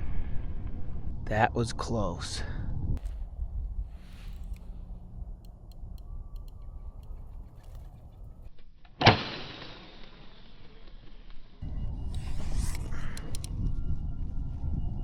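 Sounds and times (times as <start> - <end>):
low wind rumble: 0.0 - 8.6, 9.9 - 15.0.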